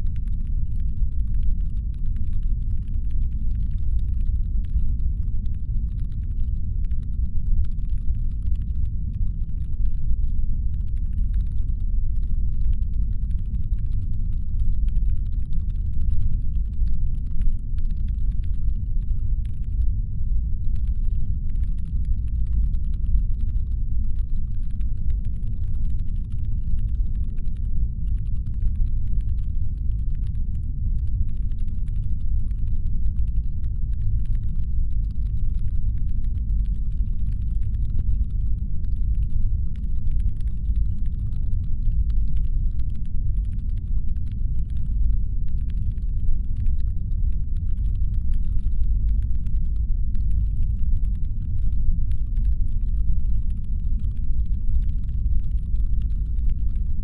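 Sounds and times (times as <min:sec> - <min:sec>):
faint crackle of clicks: 0:00.0 - 0:20.0, 0:20.6 - 0:57.0
deep brown-noise rumble: 0:00.0 - 0:57.0.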